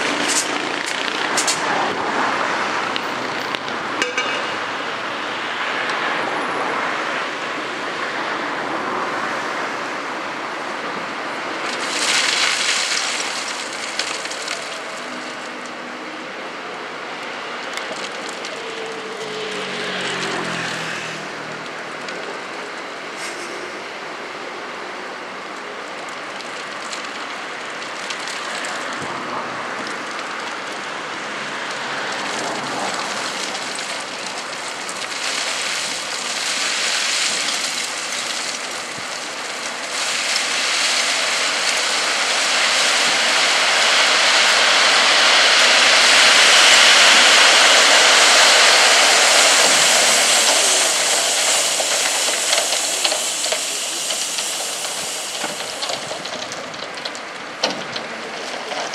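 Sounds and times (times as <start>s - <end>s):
gravel pouring from tipper truck: 0.0s - 58.9s.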